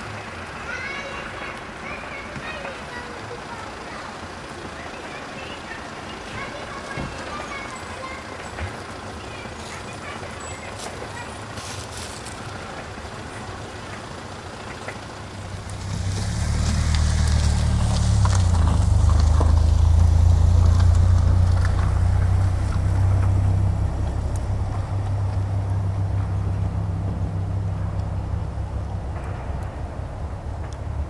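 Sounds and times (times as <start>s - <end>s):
locomotive engine hum: 0.0s - 31.0s.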